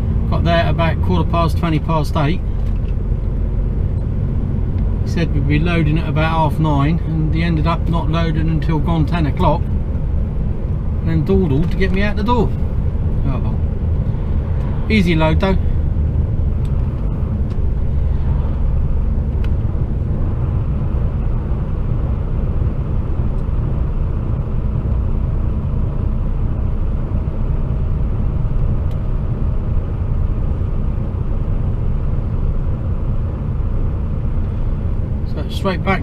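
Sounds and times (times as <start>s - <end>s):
road noise: 0.0s - 36.0s
truck diesel engine drone: 0.0s - 36.0s.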